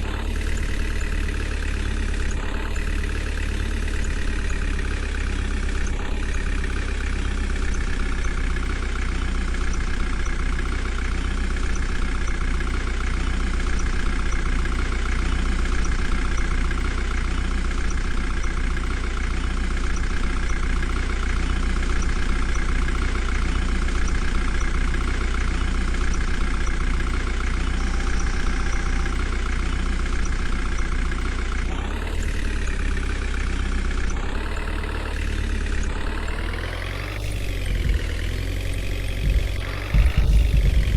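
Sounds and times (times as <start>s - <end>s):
diesel engines running: 0.0s - 40.9s.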